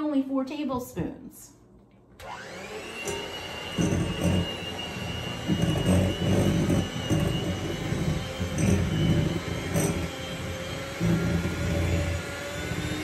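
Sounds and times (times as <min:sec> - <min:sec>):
beaters churning thick dough: 0:02.2 - 0:13.0
hand mixer motor whine: 0:02.2 - 0:13.0.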